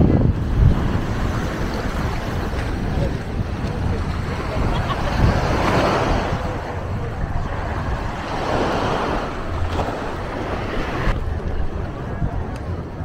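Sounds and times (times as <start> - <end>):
small waves washing on shore: 0.0 - 13.0
wind rumbling on microphone: 0.0 - 13.0.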